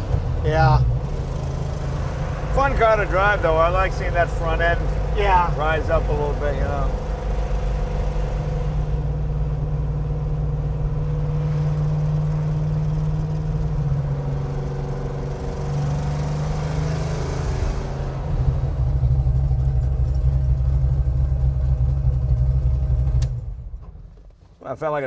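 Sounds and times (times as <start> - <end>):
car engine driving: 0.0 - 25.0.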